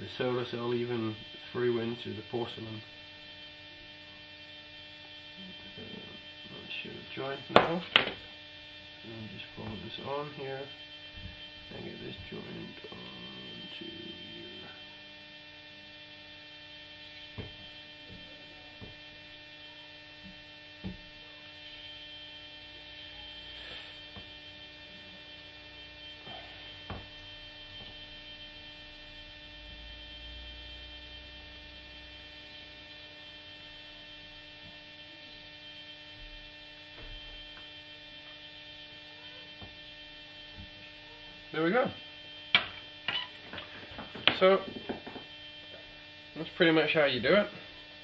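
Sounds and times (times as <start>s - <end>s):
electrical mains hum: 0.0s - 48.0s.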